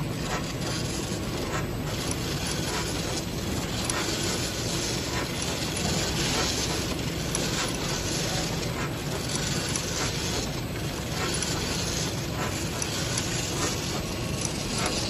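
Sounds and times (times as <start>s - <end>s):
labelling machine running: 0.0s - 15.0s.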